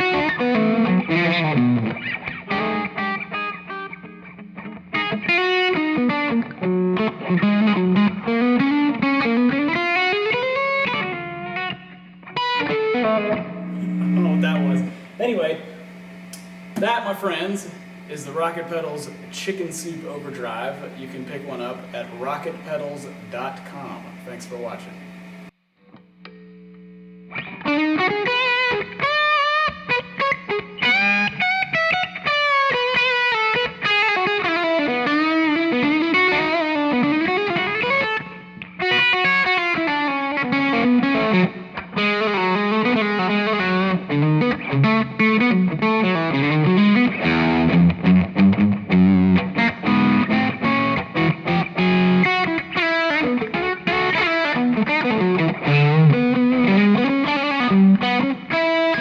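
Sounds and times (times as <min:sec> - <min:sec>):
overdriven electric guitar lead: 0:00.0 - 0:59.0.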